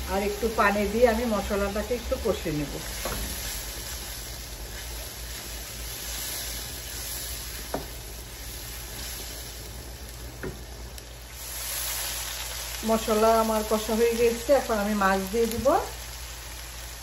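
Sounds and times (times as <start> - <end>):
paste sizzling in oil: 0.0 - 17.0.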